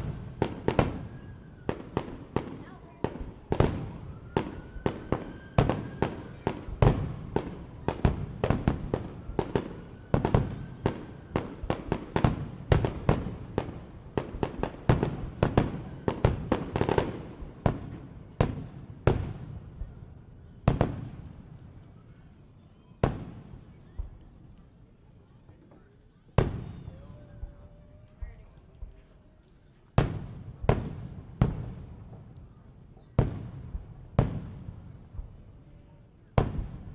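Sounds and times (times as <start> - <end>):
fireworks bangs: 0.0 - 22.0, 23.0 - 24.2, 26.3 - 29.0, 30.0 - 36.9.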